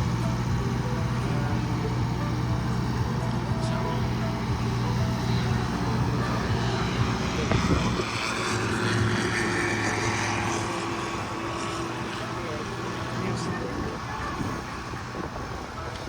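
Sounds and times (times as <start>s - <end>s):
helicopter engine hum and whine: 0.0s - 16.0s
steady tone: 0.0s - 16.0s.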